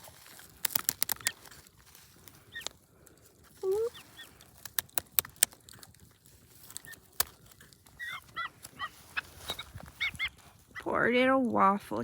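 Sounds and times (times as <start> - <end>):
chickens calling: 0.8 - 11.0.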